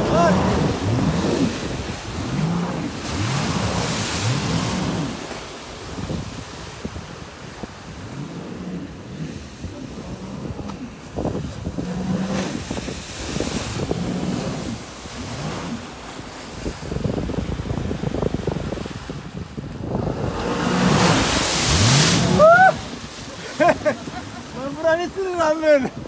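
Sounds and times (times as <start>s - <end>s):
faint watercraft engine: 0.0s - 26.0s
water slapping against hull: 0.0s - 26.0s
wind buffeting microphone: 0.0s - 26.0s.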